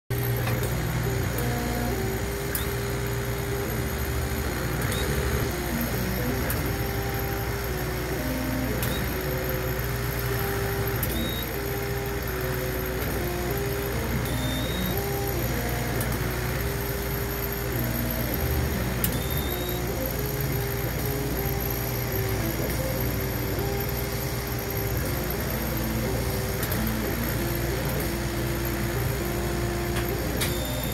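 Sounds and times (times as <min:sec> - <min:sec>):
laser cutter motors whining: 0:00.1 - 0:30.9
steady hum and hiss: 0:00.2 - 0:30.9.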